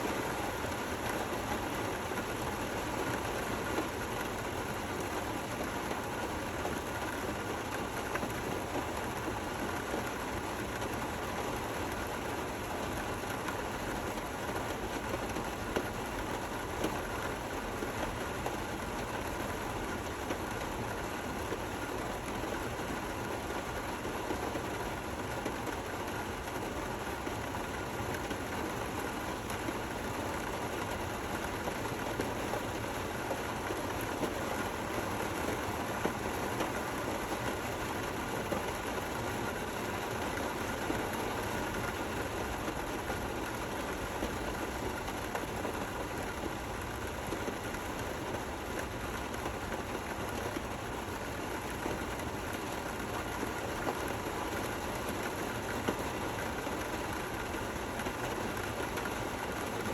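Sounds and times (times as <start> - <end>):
gentle rain: 0.0 - 59.9.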